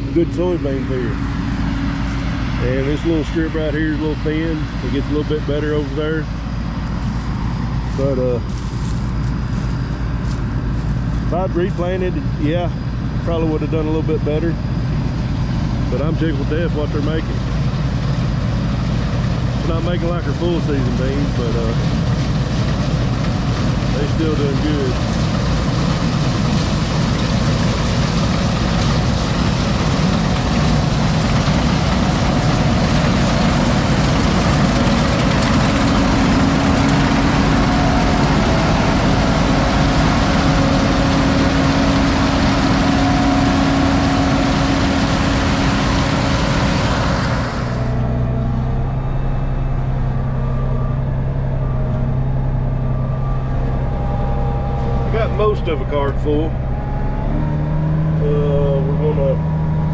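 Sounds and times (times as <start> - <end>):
heavy farm machinery running: 0.0 - 59.9.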